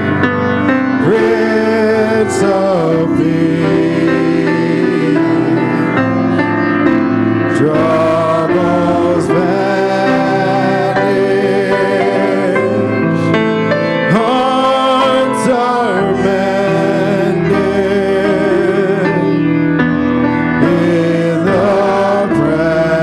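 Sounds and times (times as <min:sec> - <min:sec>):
keyboard and guitar accompaniment: 0:00.0 - 0:23.0
people singing worship song: 0:00.0 - 0:23.0.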